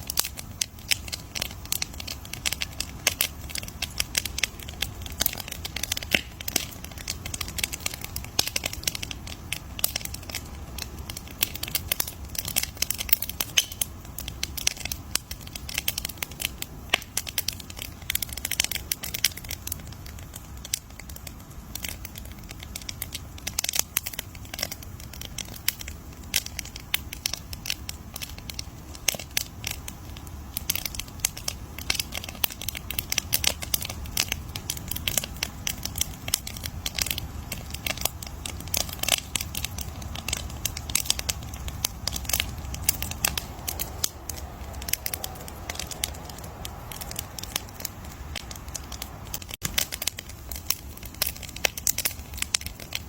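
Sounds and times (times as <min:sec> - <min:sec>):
campfire pops and snaps: 0:00.0 - 0:53.0
low rumble of burning fire: 0:00.0 - 0:53.0.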